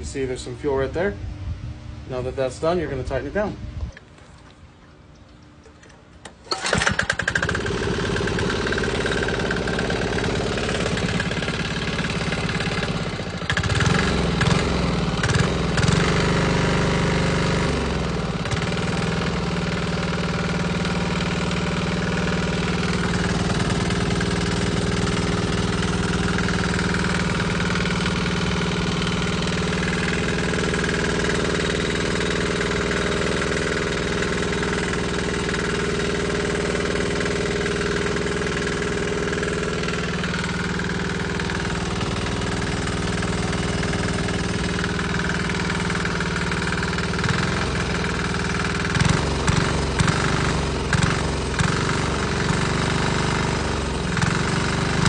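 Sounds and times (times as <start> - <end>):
small diesel engine running: 5.8 - 55.0.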